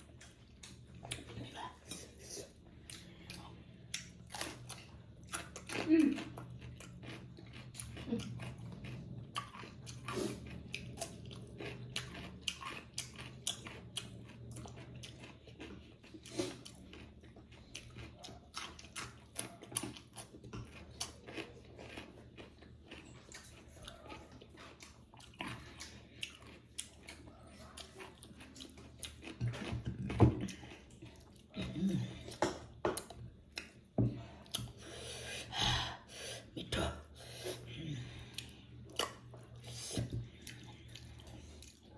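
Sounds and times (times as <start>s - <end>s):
person chewing close up: 0.0s - 35.6s, 36.4s - 41.9s.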